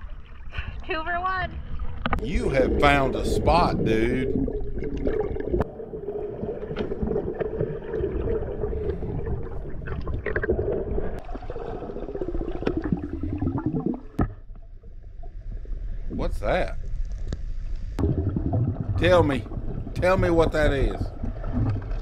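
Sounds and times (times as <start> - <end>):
underwater water noise: 0.0 - 22.0
boat motor hum underwater: 1.6 - 16.2, 16.8 - 22.0.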